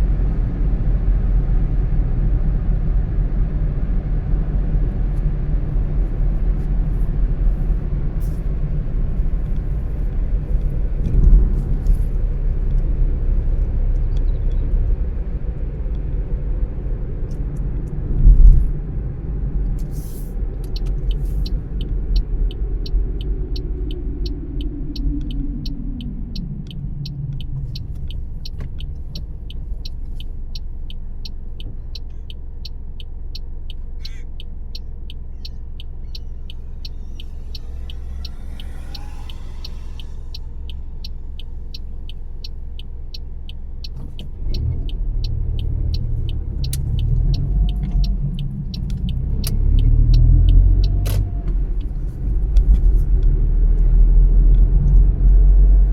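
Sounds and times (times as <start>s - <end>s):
car driving: 0.0s - 55.9s
turn signal ticking: 0.0s - 55.9s.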